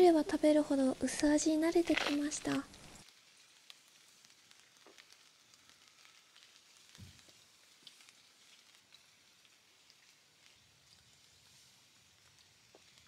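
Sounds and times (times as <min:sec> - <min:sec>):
faint rain hiss: 0:00.0 - 0:13.0.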